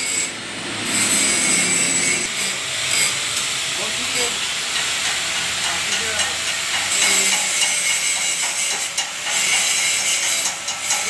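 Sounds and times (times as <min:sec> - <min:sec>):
welding hiss: 0:01.0 - 0:11.0.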